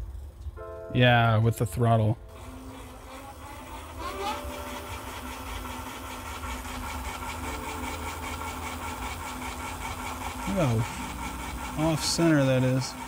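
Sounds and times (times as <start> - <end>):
electric motor whirring: 2.3 - 13.0.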